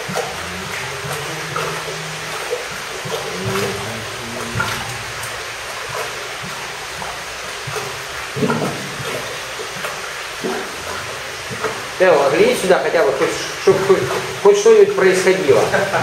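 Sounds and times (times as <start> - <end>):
water sloshing and trickling: 0.0 - 16.0
water splashes: 0.0 - 16.0.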